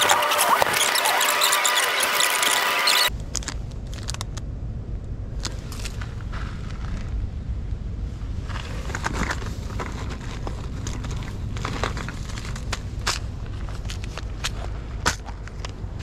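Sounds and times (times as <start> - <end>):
low steady rumble: 3.1 - 16.0.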